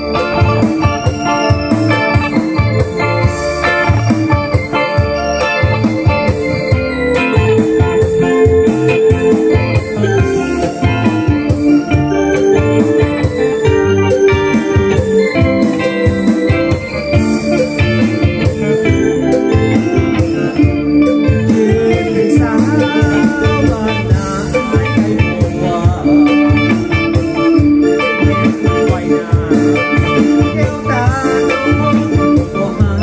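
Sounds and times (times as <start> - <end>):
electric guitar: 0.0 - 33.0
organ-toned keyboard: 0.0 - 33.0
steady beat: 0.0 - 33.0.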